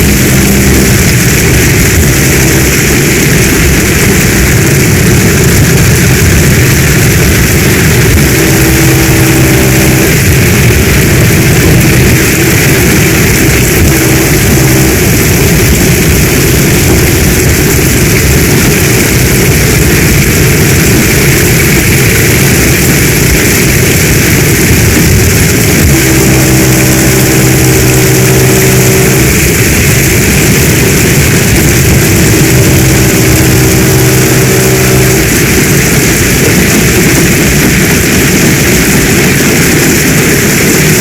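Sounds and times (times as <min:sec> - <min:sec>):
low humming tone: 0:00.0 - 0:40.7
heavy rain pouring: 0:00.0 - 0:41.0.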